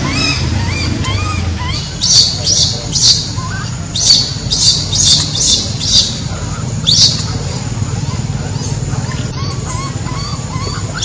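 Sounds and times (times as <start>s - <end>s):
baby monkey shrill squeals: 0.0s - 7.4s, 8.6s - 11.0s.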